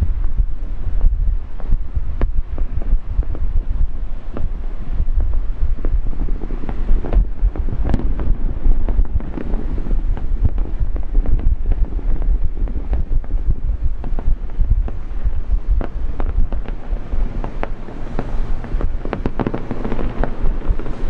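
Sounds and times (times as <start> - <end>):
fireworks bangs and pops: 0.0 - 21.0
wind buffeting microphone: 0.0 - 21.0.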